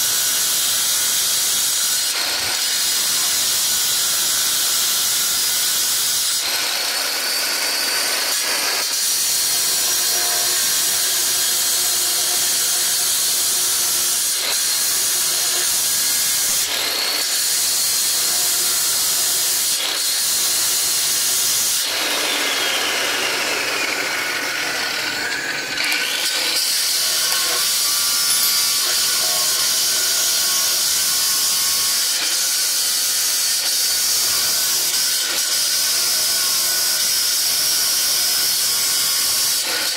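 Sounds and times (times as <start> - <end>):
marble cutter grinding: 0.0 - 39.9.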